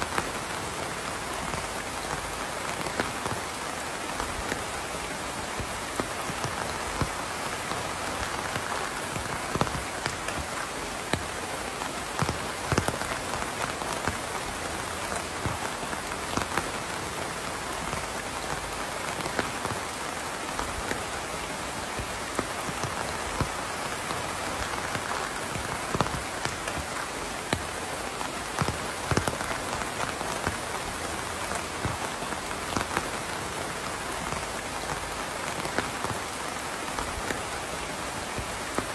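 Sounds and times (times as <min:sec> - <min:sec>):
close raindrops striking: 0:00.0 - 0:38.9
steady rain hiss: 0:00.0 - 0:38.9.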